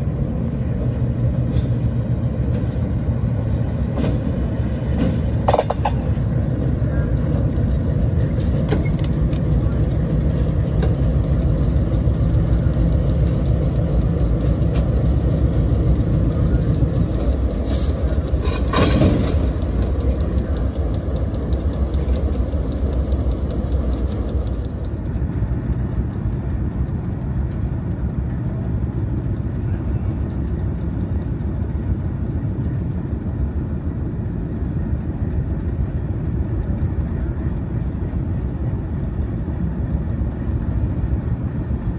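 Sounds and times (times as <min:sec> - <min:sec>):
diesel locomotive rumbling: 0:00.0 - 0:41.9.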